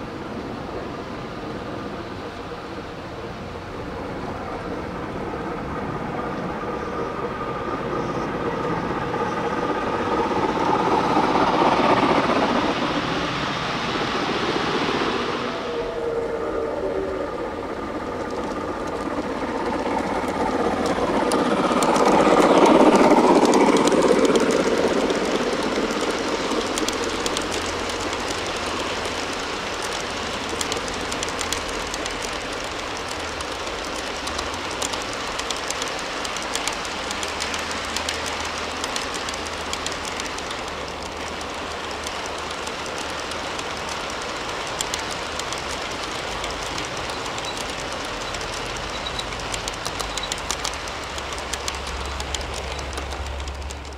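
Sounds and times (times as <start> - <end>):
model train rumbling and clicking: 0.0 - 53.9.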